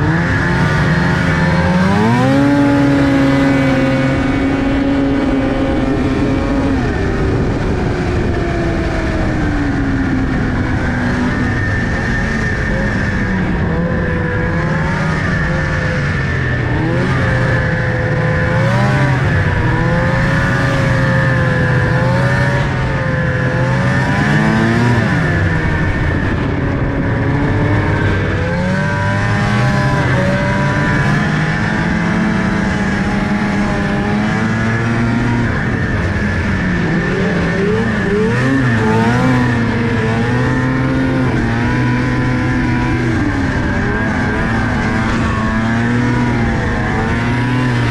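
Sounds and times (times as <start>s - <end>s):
steady high whine: 0.0s - 47.9s
vehicle engine running: 0.0s - 47.9s.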